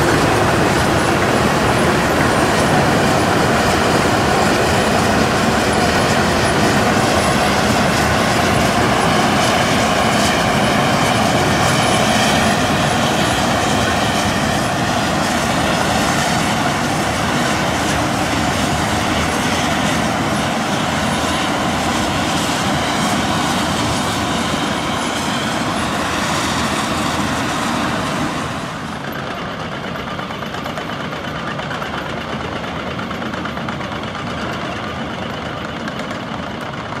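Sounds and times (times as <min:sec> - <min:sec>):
milling machine grinding road: 0:00.0 - 0:36.9.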